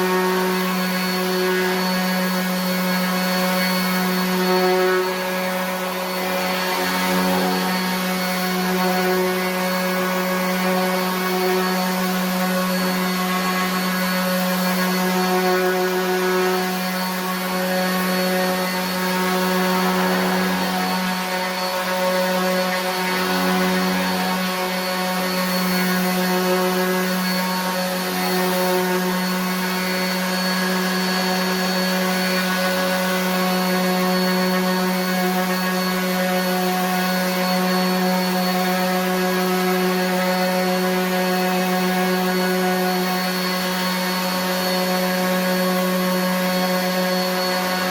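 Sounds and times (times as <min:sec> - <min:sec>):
orbit sander running: 0:00.0 - 0:47.9.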